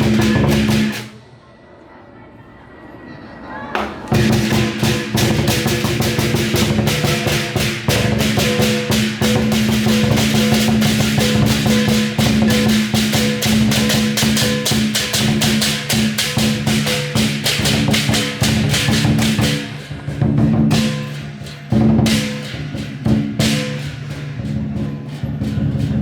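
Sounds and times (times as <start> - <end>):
drum beating: 0.0 - 1.1, 3.8 - 26.0
cymbals clashing: 0.0 - 1.2, 4.0 - 26.0.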